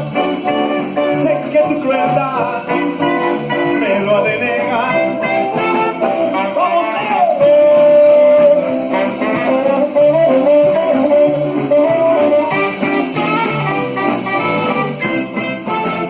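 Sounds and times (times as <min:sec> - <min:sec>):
lead guitar melody: 0:00.0 - 0:16.0
live band playing: 0:00.0 - 0:16.0.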